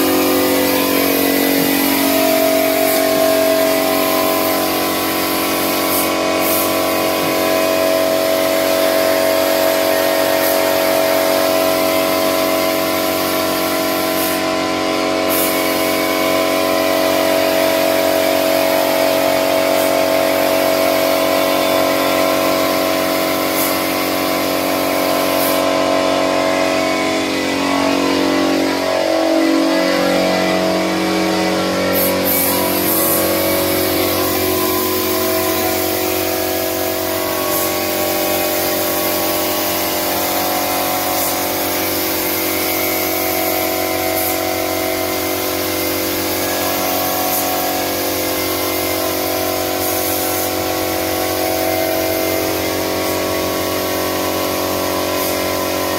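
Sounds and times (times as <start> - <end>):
air compressor humming: 0.0 - 55.9
spray gun hissing: 0.0 - 55.9.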